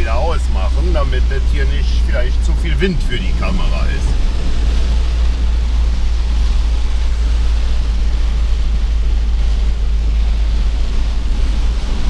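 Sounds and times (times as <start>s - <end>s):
car cabin road rumble: 0.0s - 12.0s
tyres hissing on wet road: 0.0s - 12.0s.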